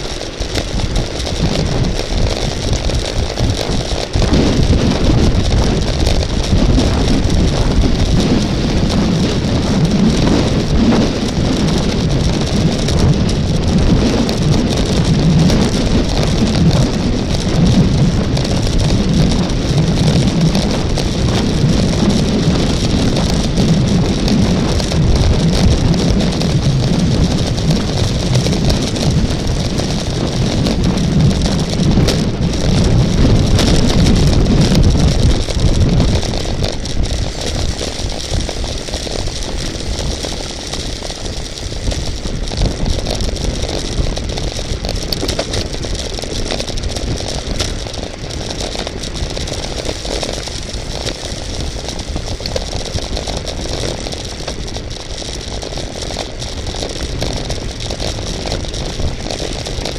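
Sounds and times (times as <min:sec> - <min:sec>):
heavy low rumble: 0:00.0 - 0:59.9
road noise: 0:00.0 - 0:59.9
rushing wind: 0:00.0 - 0:59.9.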